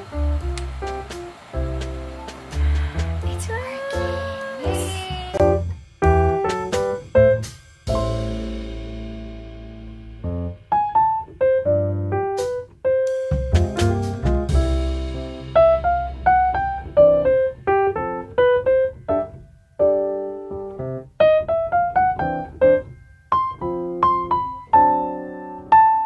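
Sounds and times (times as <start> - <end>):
piano melody: 0.0 - 26.0.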